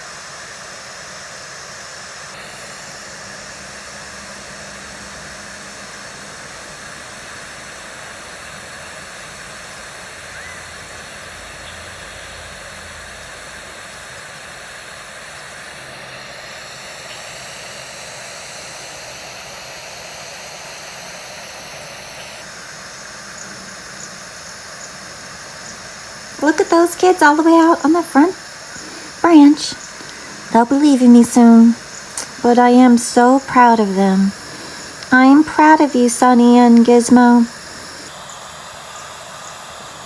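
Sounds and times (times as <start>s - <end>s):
outdoor background hiss: 0.0s - 40.0s.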